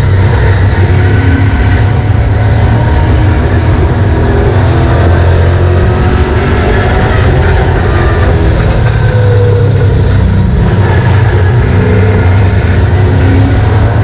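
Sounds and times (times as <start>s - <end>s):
race car engine drone: 0.0s - 14.0s.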